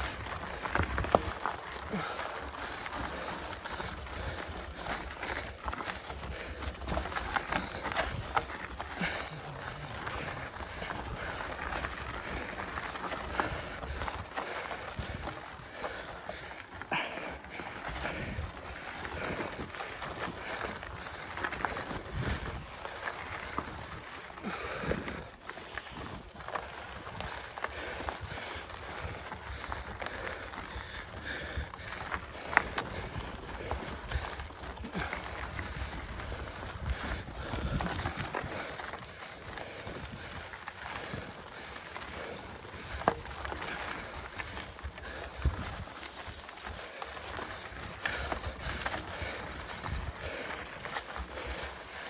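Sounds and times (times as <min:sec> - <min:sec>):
bike tyre and drivetrain noise: 0:00.0 - 0:52.0
rider heavy breathing: 0:00.0 - 0:52.0.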